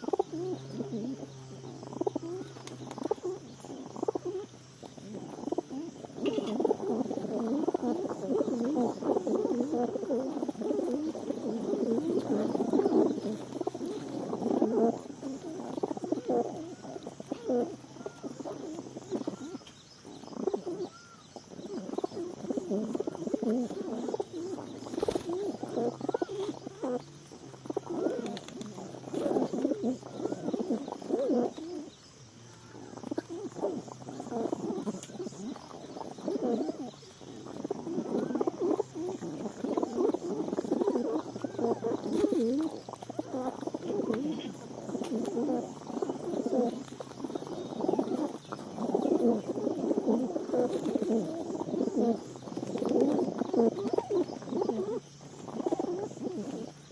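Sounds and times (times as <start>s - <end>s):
pigeons cooing: 0.0s - 56.9s.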